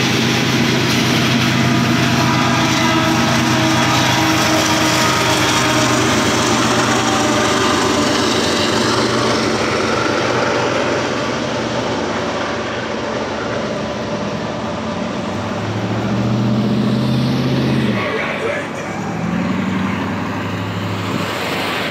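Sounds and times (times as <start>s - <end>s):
diesel locomotive passing: 0.0s - 21.9s
pickup truck engine revving: 0.0s - 21.9s.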